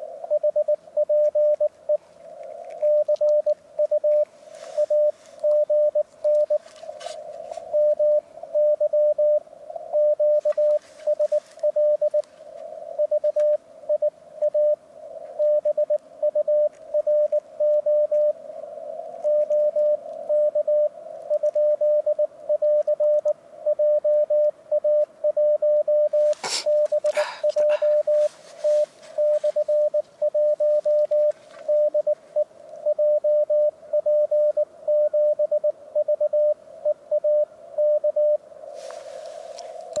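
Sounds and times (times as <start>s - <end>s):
faint radio hiss: 0.0s - 40.0s
morse code tone: 0.3s - 2.0s, 2.8s - 6.7s, 7.6s - 12.3s, 13.0s - 14.8s, 15.4s - 18.4s, 19.3s - 38.4s.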